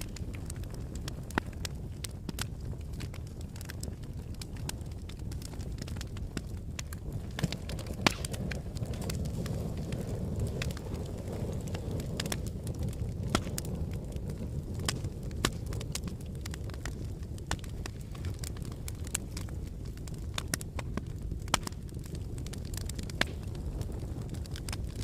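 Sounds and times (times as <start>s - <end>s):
fire flames rumbling: 0.0s - 25.0s
wood fire crackling and popping: 0.0s - 25.0s.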